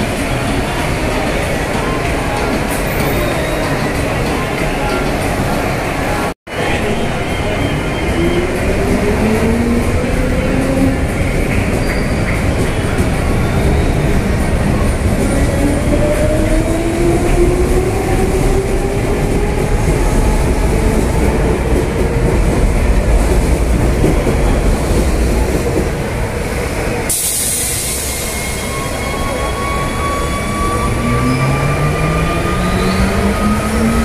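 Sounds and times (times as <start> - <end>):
wheels rumbling on rails: 0.0 - 34.0.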